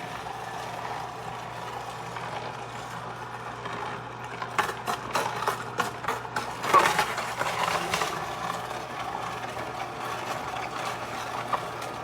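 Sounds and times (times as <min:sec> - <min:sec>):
juicer motor humming: 0:00.0 - 0:12.0.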